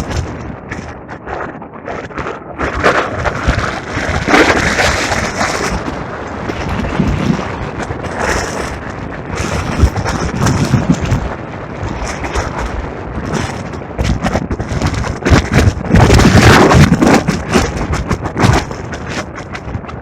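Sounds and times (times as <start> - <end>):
strong gusting wind on microphone: 0.0 - 20.0.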